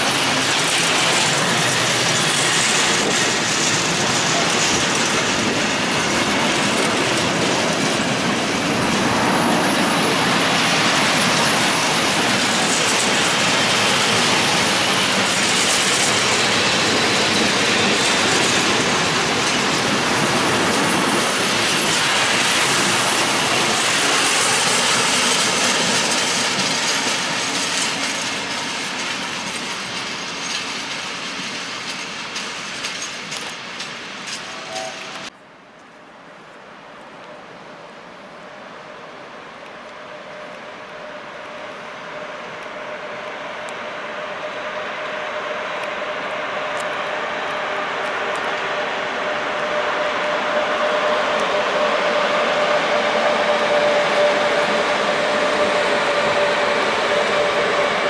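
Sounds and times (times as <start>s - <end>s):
train passing at speed: 0.0s - 58.0s.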